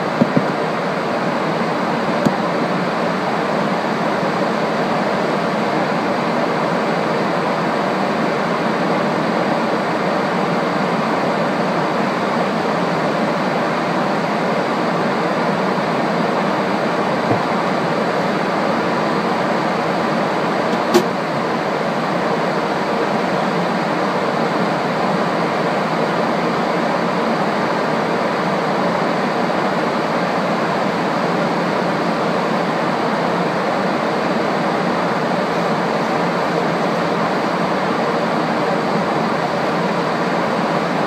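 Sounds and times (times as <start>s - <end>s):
aircraft cabin roar: 0.0s - 41.0s.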